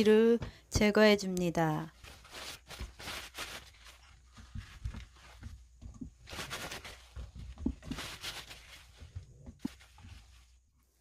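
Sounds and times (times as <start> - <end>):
towel rustling: 1.9 - 11.0.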